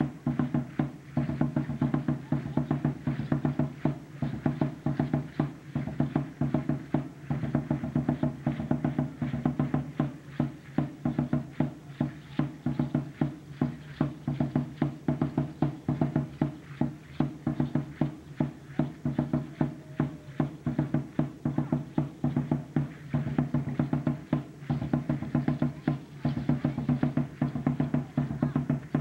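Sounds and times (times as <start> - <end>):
deep drum beat: 0.0 - 29.0.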